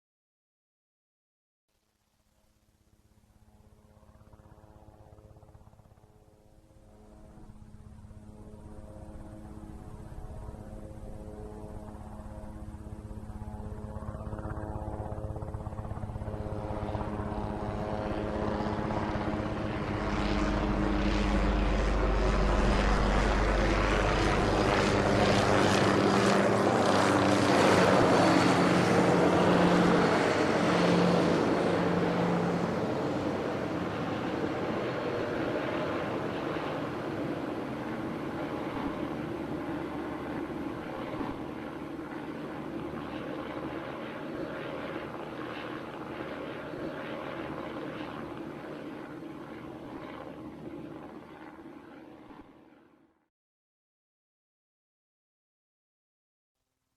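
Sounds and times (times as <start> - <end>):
helicopter flying past: 3.1 - 53.2.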